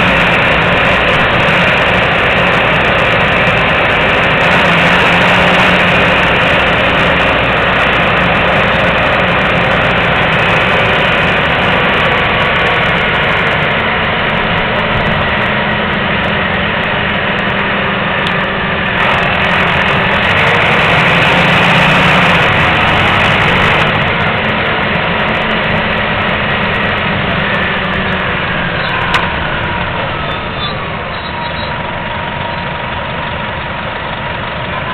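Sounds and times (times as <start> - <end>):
bus diesel engine running: 0.0 - 34.9
falling whine: 0.0 - 34.9.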